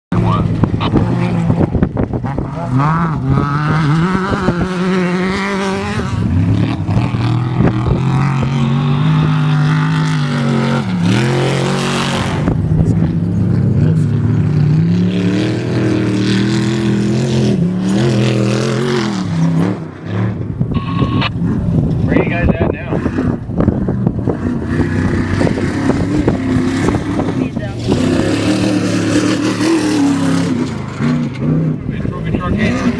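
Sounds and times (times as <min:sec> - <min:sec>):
engine revving: 0:00.1 - 0:32.9.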